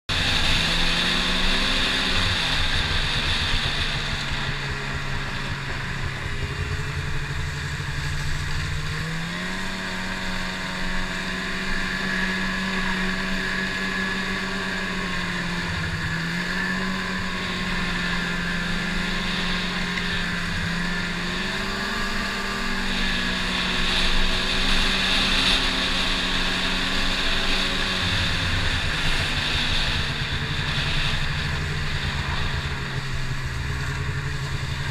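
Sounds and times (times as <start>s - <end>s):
snowmobile engine droning: 0.0s - 34.9s.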